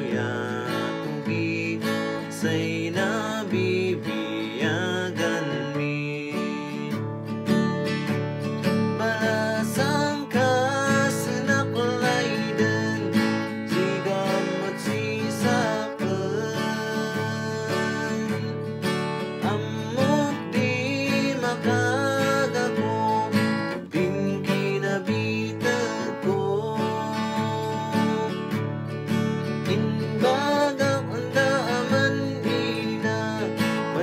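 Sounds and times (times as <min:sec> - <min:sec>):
acoustic guitar strumming: 0:00.0 - 0:34.0
man singing slow song: 0:00.0 - 0:34.0.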